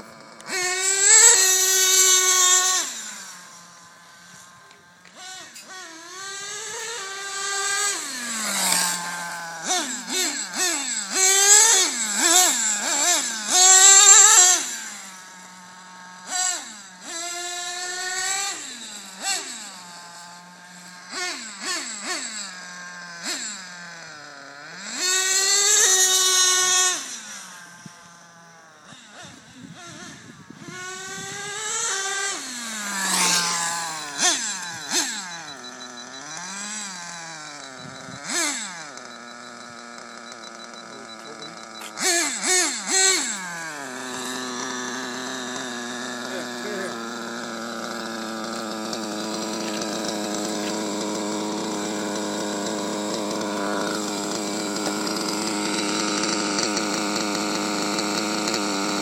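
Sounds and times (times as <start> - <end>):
small nitro engine revving: 0.0 - 59.0.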